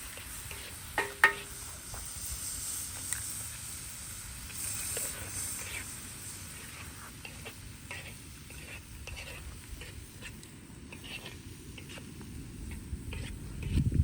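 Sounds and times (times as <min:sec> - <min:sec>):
light crackles and scrapes: 0:00.0 - 0:03.7, 0:04.5 - 0:14.0
low rumble of fire: 0:00.0 - 0:14.0.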